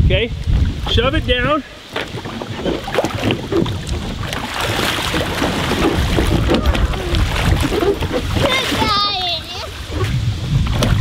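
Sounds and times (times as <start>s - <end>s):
wind rumbling on microphone: 0.0s - 11.0s
water splashing around kayak: 0.1s - 11.0s.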